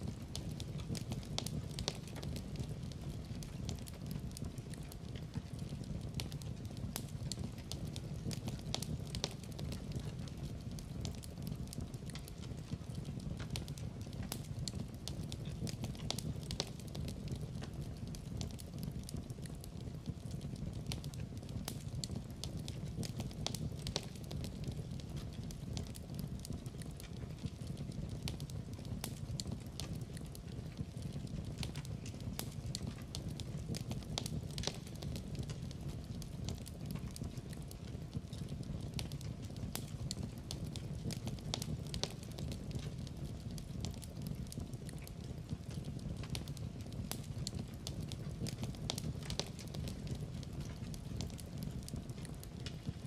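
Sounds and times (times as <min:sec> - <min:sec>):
pops and snaps of fire: 0:00.0 - 0:53.0
wood fire crackling: 0:00.0 - 0:53.0.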